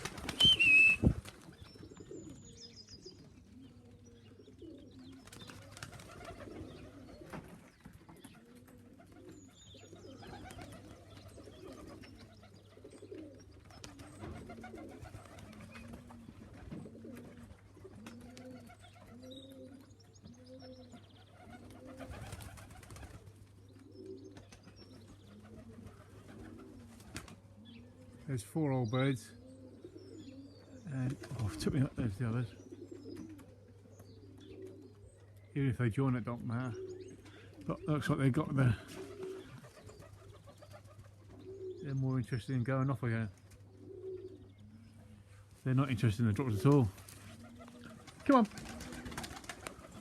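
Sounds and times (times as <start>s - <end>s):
pigeons cooing: 0.0s - 50.0s.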